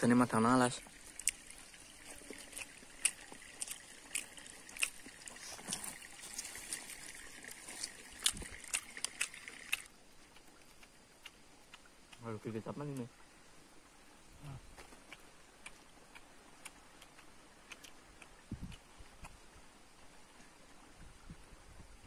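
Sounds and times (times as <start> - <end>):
stream trickling: 0.0 - 22.0.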